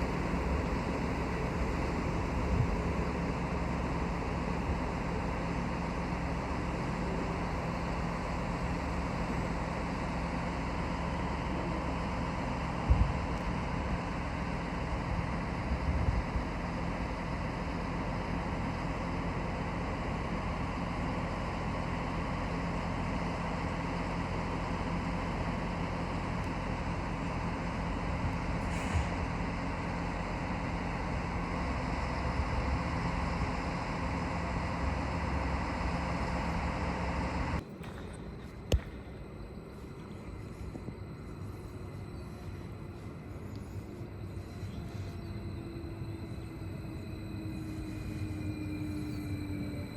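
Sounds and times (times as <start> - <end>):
train humming: 0.0 - 49.9.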